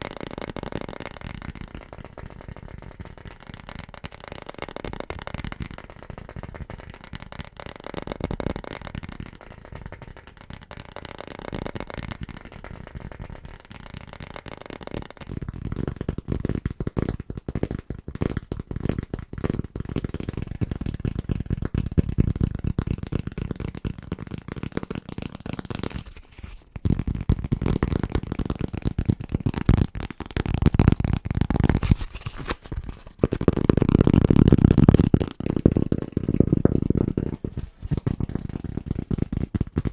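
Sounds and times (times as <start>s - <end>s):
fast finger tapping on objects: 0.0s - 39.9s.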